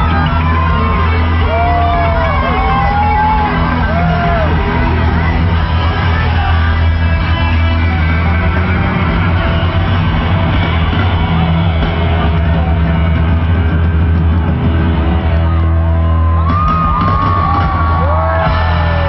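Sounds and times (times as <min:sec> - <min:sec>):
crowd screaming and cheering: 0:00.0 - 0:19.0
live pop concert music: 0:00.0 - 0:19.0.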